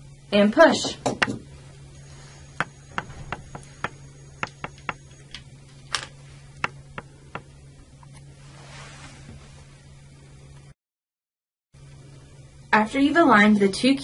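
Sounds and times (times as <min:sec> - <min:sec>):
steady low hum: 0:00.0 - 0:10.8, 0:11.8 - 0:14.0.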